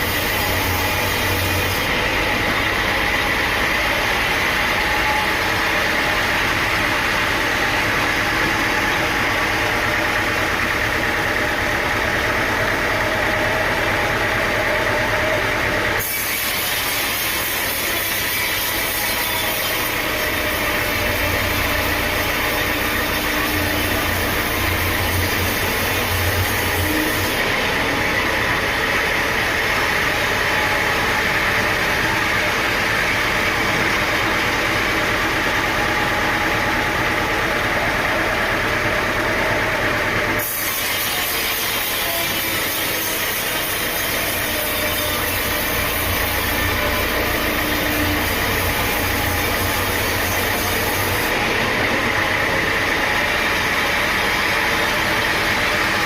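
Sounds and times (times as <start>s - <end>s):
sawmill machinery engine hum: 0.0s - 56.0s.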